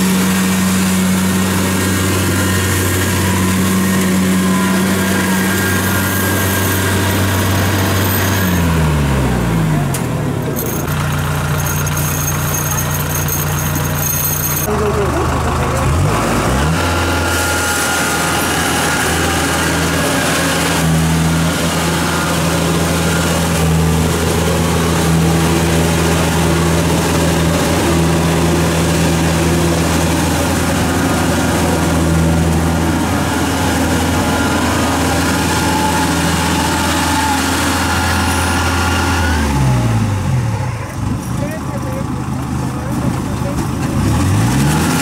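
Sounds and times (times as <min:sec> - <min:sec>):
combine harvester diesel engine: 0:00.0 - 0:45.0.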